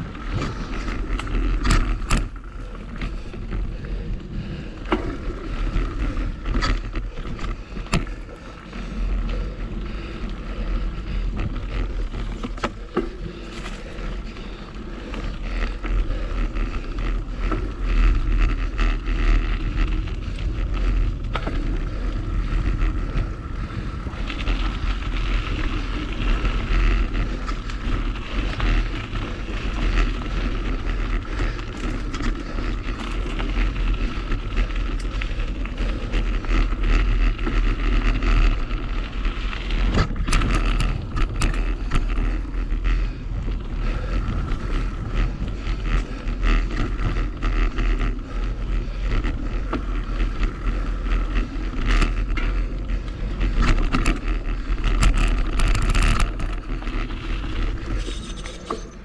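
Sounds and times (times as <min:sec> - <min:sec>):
bike rattling: 0:00.0 - 0:59.0
tyre noise on dirt: 0:00.0 - 0:59.0.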